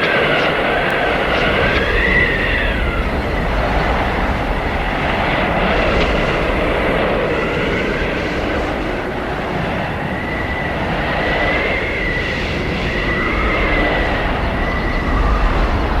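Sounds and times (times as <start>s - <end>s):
howling blizzard wind: 0.0s - 16.0s.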